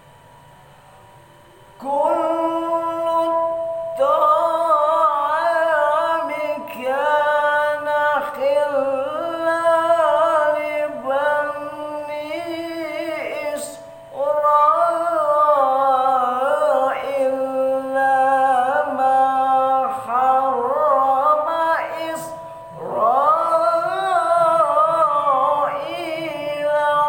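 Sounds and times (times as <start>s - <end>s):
faint steady tone: 0.0s - 27.0s
person chanting melodically: 1.6s - 27.0s.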